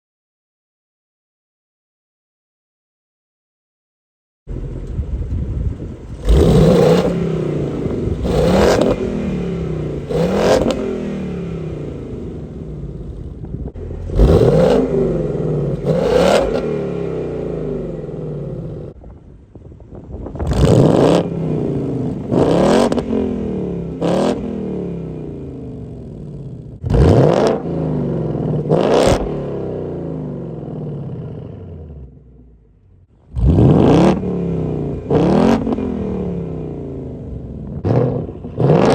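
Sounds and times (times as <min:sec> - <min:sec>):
car engine revving: 0:04.5 - 0:19.0, 0:20.4 - 0:38.9.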